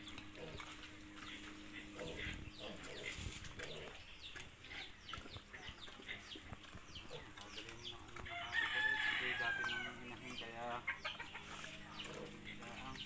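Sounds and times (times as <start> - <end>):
birds chirping: 0.0 - 13.0
faint low farmyard noises: 0.0 - 13.0.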